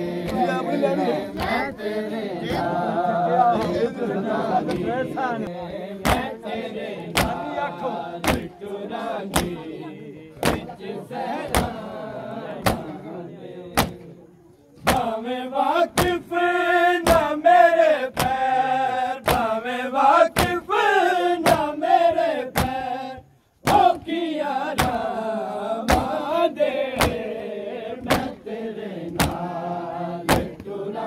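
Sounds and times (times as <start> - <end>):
men chanting in unison: 0.0 - 31.0.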